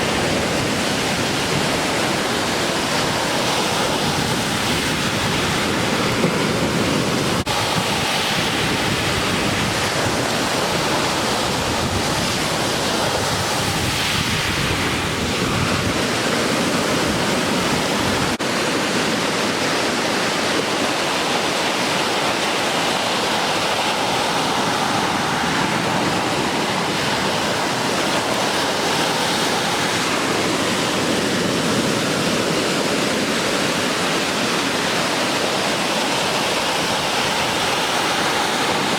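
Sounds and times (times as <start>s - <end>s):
waves breaking: 0.0s - 38.9s
wind on microphone: 0.0s - 38.9s.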